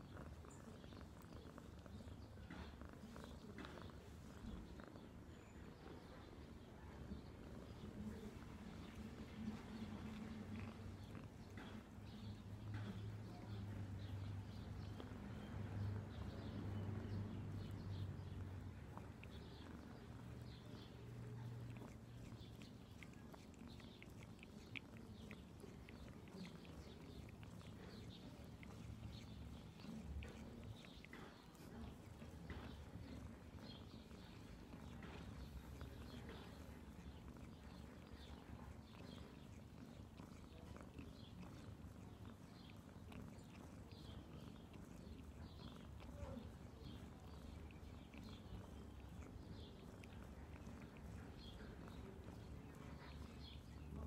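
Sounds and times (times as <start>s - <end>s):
cat licking paw: 0.0s - 54.0s.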